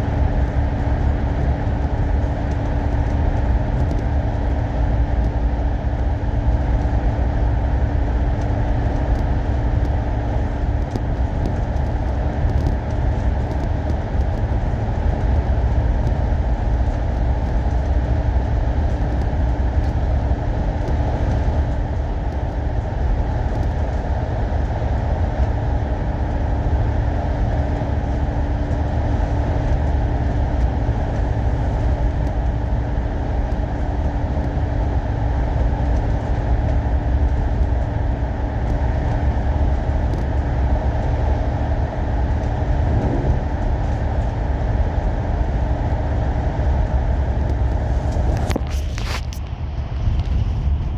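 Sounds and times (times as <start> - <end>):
bus engine and road rumble: 0.0 - 50.9
droning hum: 0.0 - 50.9.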